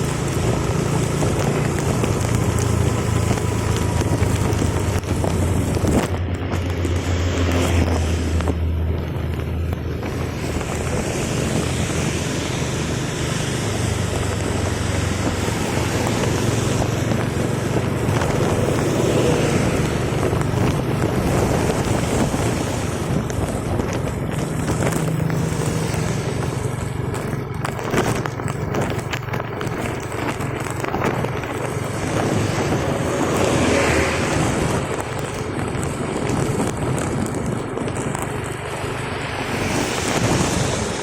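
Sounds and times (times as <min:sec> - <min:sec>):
vehicle engine running: 0:00.0 - 0:41.0
wind noise on microphone: 0:00.0 - 0:41.0.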